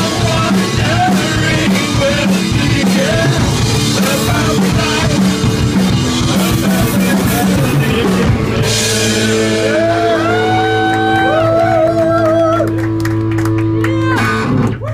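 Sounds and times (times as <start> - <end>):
live rock band playing: 0.0 - 14.8
sliding high guitar notes: 0.0 - 14.8.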